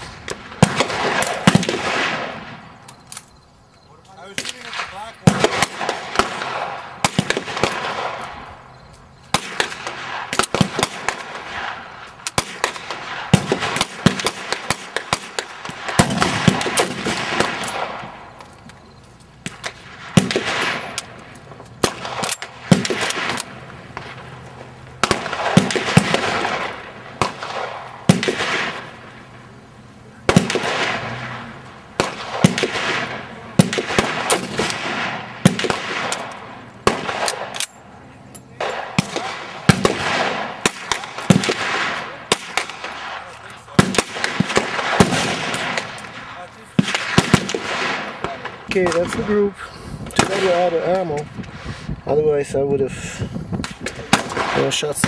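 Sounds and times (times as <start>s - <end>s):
gunshots with echoing tails: 0.0s - 2.8s, 4.4s - 8.7s, 9.3s - 18.4s, 19.4s - 24.4s, 25.0s - 29.6s, 30.2s - 37.6s, 38.6s - 49.5s, 50.2s - 50.9s, 53.6s - 55.0s.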